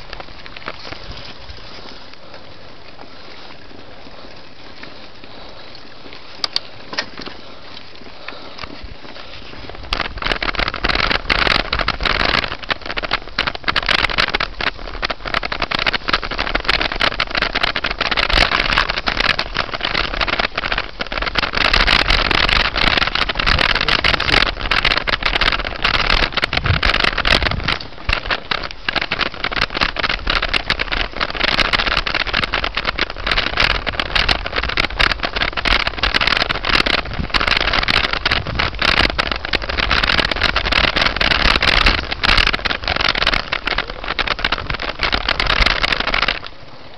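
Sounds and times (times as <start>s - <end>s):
wind buffeting microphone: 8.2s - 46.5s.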